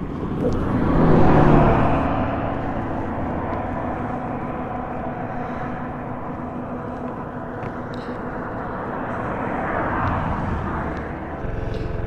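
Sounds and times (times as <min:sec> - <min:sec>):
motorcycle engine hum: 0:00.0 - 0:12.0
road noise: 0:00.0 - 0:12.0
wind noise: 0:00.0 - 0:12.0.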